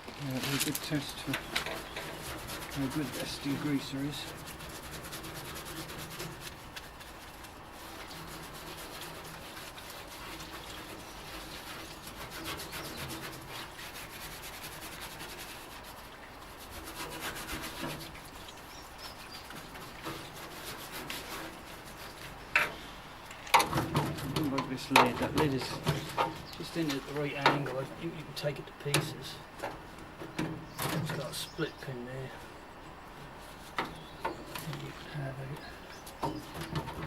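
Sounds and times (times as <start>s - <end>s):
brush scrubbing metal tank: 0.0s - 32.5s, 33.2s - 37.0s.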